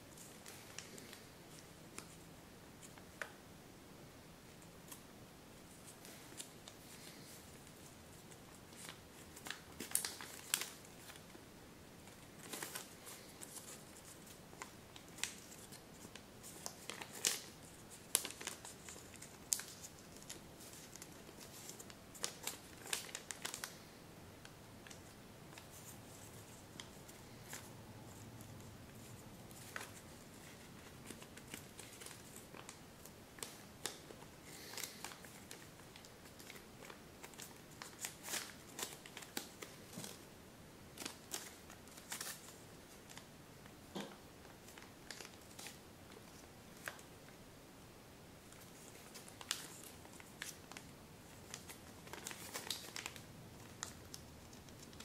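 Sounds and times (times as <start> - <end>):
paper rustling and crinkling: 5.7 - 11.4, 12.0 - 23.9, 24.8 - 40.2, 41.0 - 43.2, 44.6 - 47.1, 48.5 - 55.0.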